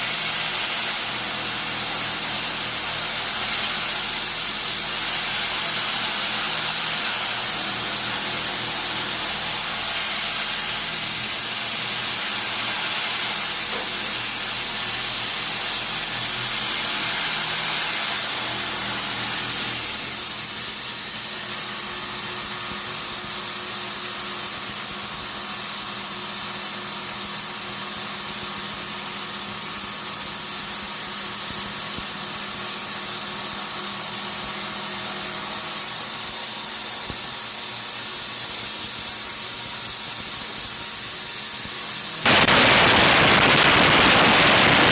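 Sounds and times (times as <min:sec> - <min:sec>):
machine hissing: 0:00.0 - 0:25.4, 0:29.3 - 0:44.9.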